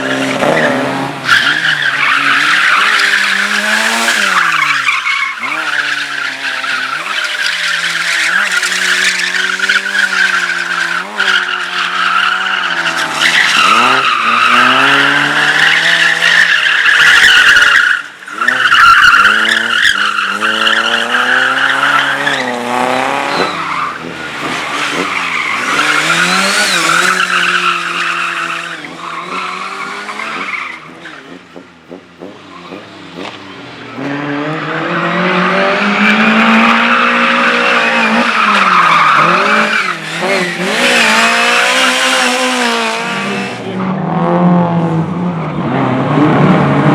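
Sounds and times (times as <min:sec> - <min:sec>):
race car engine revving: 0:00.0 - 0:46.9
tyres squealing: 0:00.2 - 0:31.3, 0:36.0 - 0:43.6.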